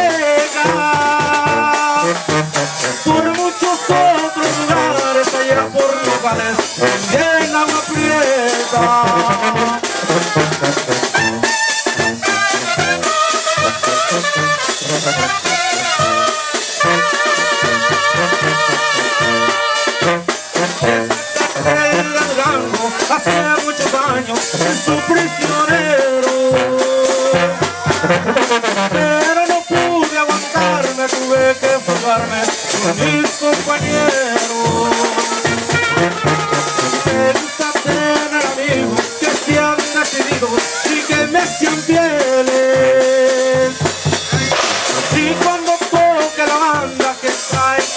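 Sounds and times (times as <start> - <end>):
bass drum and cymbal beat: 0.0 - 47.9
sousaphone bass line: 0.0 - 47.9
trumpets and horns playing melody: 0.0 - 47.9.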